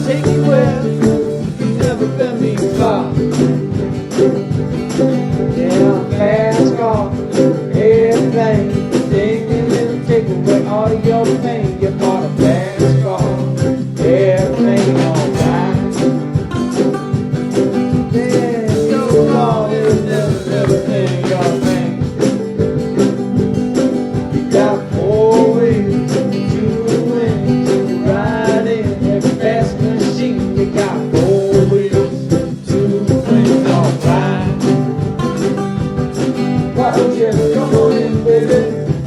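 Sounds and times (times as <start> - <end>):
lead guitar bending lines: 0.0 - 39.0
rock band with steady beat: 0.0 - 39.0.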